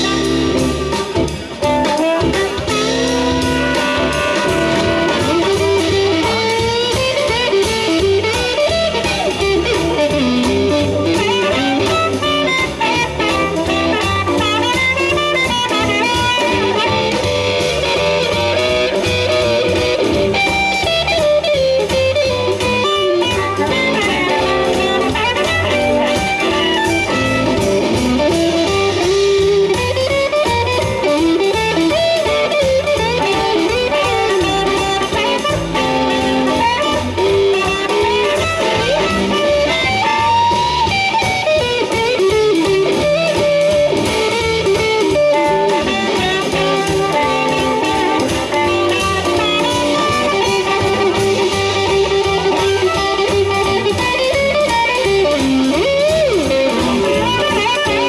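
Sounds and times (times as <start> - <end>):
amplified harmonica: 0.0 - 58.0
drums: 0.0 - 58.0
electric guitar: 0.0 - 58.0
upright bass: 0.0 - 58.0.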